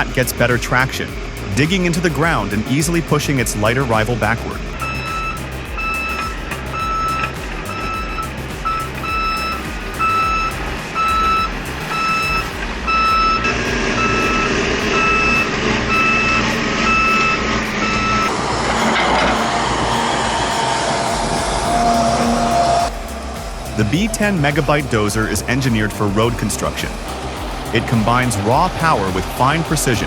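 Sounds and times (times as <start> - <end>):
bulldozer diesel engines: 0.0 - 30.0
reversing alarm beeping: 3.9 - 30.0.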